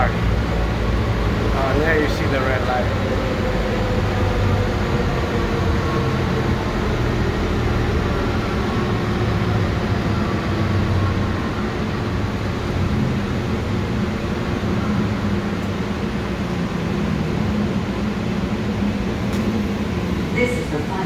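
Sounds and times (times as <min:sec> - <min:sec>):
tram running: 0:00.0 - 0:21.0.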